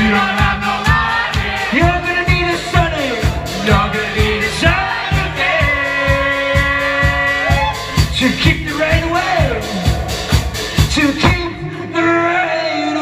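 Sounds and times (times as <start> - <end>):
kick drum beat: 0.0 - 11.5
rock band playing: 0.0 - 11.5.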